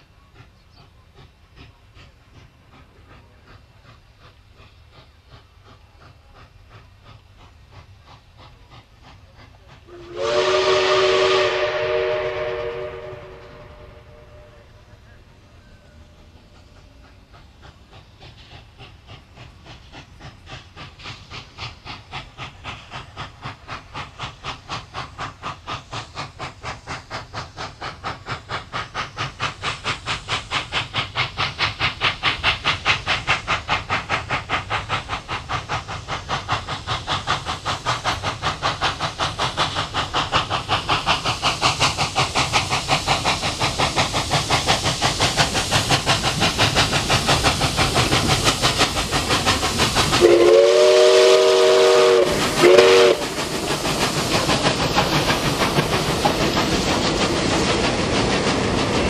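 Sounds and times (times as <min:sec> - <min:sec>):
steam hiss: 0:00.0 - 0:59.0
steam locomotive exhaust chuffs: 0:00.0 - 0:59.0.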